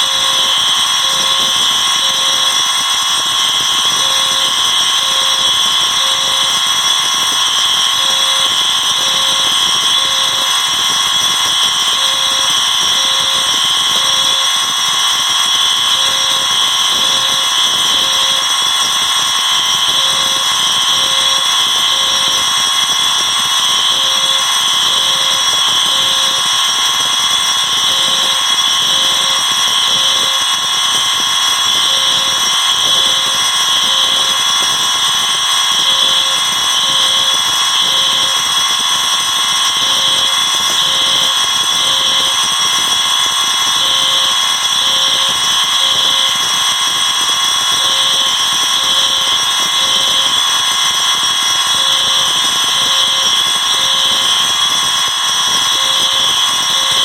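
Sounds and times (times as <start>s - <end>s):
overlapping fire alarm tones: 0.0s - 57.0s.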